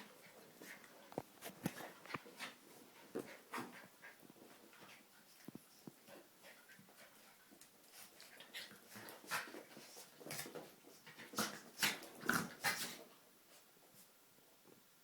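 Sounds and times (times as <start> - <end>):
dogs playing and yapping: 0.0 - 13.7.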